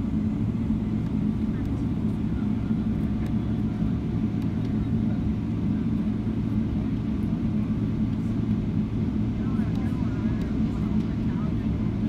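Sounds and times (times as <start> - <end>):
airplane cabin rumble and hum: 0.0 - 12.0.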